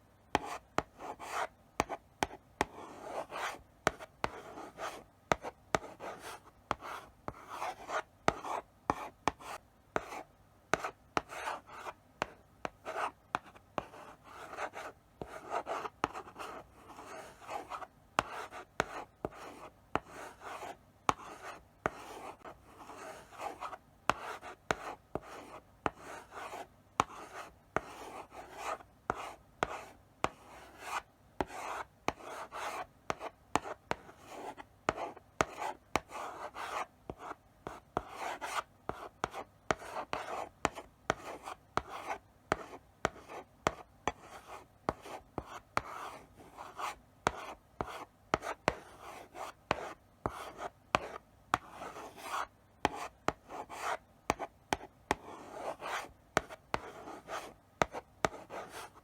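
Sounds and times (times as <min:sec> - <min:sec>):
chalk scratching on blackboard: 0:00.3 - 0:59.0
chalk tapping on board: 0:00.3 - 0:59.0.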